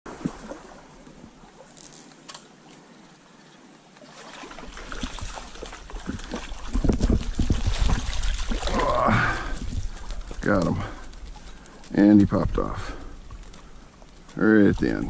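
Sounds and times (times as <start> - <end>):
stream running over rocks: 0.1 - 15.0.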